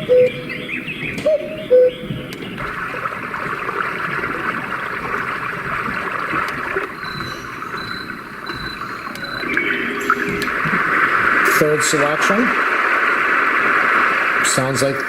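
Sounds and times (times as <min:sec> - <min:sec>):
white noise machine rushing: 0:00.0 - 0:15.0.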